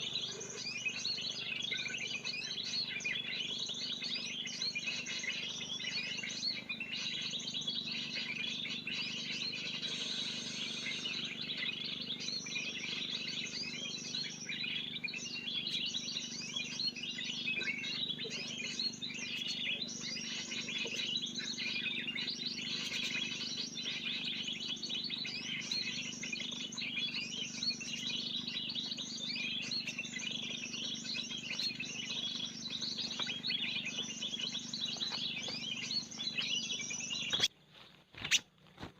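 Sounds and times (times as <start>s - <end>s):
flock of small birds chirping: 0.0s - 38.9s.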